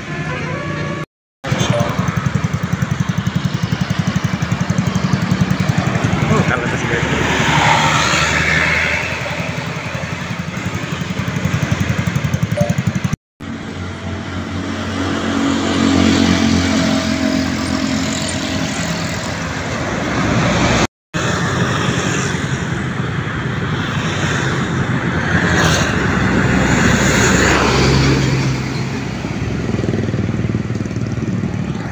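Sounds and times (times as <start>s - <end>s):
highway traffic passing: 0.0s - 31.9s.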